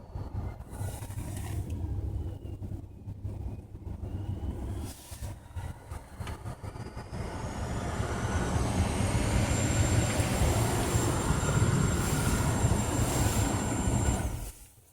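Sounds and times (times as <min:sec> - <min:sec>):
low rumble: 0:00.0 - 0:14.7
thin whine rising in pitch: 0:02.0 - 0:14.7.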